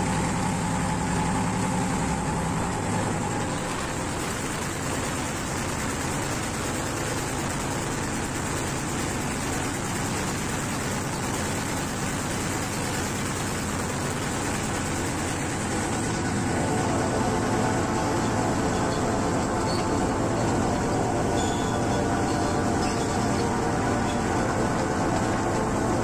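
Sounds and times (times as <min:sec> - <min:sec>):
diesel engine drone: 0:00.0 - 0:26.0
wheel and rail noise: 0:00.0 - 0:26.0.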